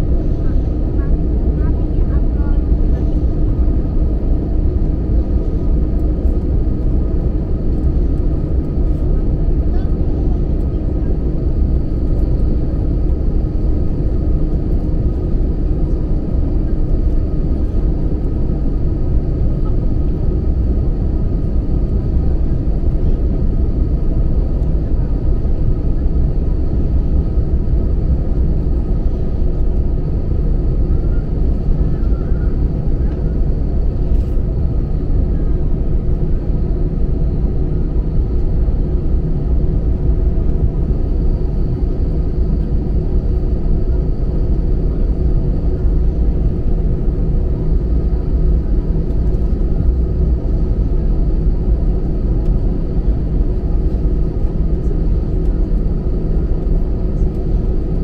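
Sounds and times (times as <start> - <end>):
jet engines low rumble: 0.0 - 58.0.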